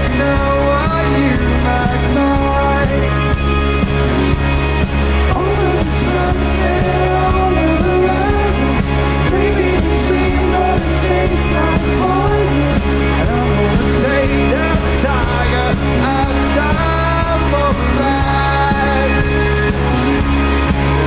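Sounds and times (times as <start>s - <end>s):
bass guitar: 0.0s - 21.0s
drums: 0.0s - 21.0s
melodic line wavering: 0.0s - 21.0s.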